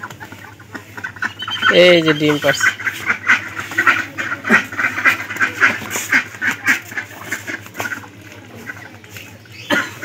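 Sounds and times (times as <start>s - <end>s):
ducks quacking: 0.0s - 10.0s.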